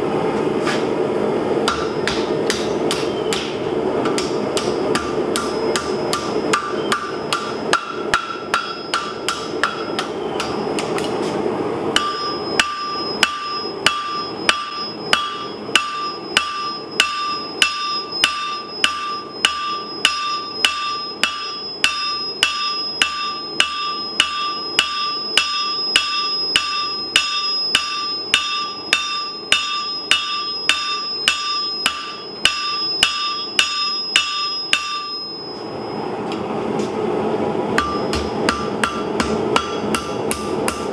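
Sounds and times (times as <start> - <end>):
hammer striking steel on anvil: 1.6 - 11.2, 11.9 - 35.6, 37.8 - 40.9.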